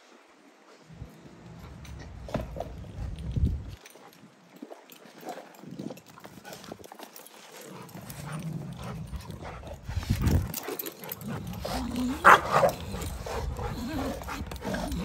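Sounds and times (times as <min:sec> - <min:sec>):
dogs growling: 0:00.9 - 0:04.0, 0:05.2 - 0:15.0.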